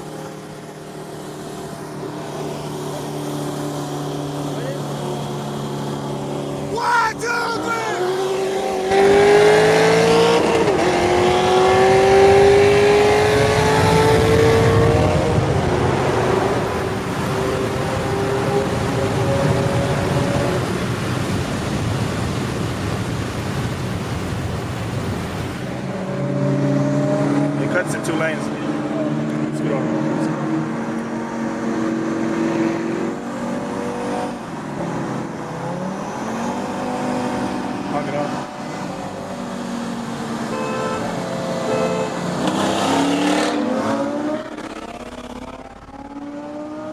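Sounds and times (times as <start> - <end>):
car engine accelerating hard: 0.0 - 46.9.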